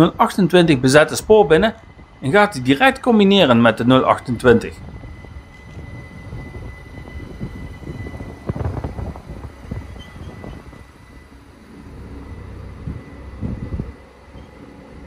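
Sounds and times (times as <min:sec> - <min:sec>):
thin electric whine: 0:00.0 - 0:15.0
train knocks: 0:00.0 - 0:15.0
train rumbling: 0:00.0 - 0:15.0.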